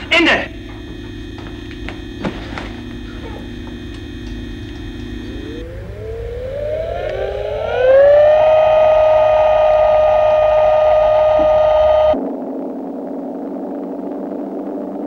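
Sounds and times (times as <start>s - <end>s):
low electronic hum: 0.0s - 15.0s
rising electronic whine: 0.0s - 15.0s.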